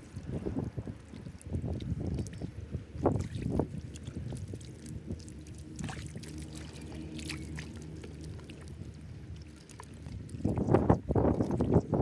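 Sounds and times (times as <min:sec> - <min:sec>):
hands squelching in wet mud: 0:00.0 - 0:11.9
low steady rumble: 0:00.0 - 0:12.0
water drips and trickles: 0:00.0 - 0:12.0.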